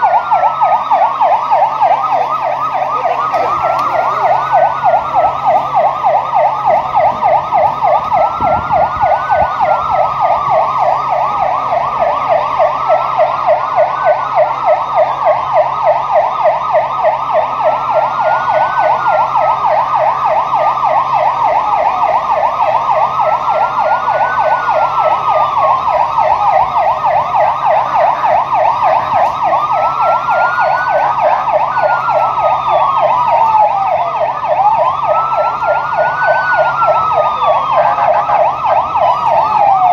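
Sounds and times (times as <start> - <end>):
wailing siren: 0.0 - 39.9
warbling yelp siren: 0.0 - 39.9.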